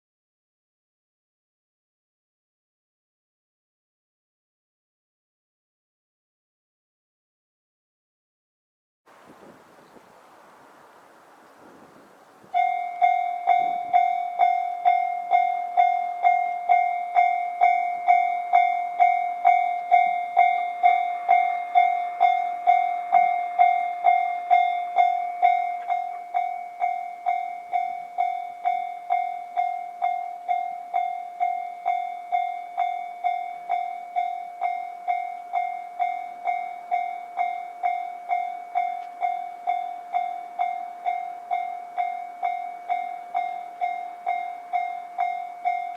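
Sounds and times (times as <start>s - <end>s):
level crossing warning bell: 9.1s - 45.9s.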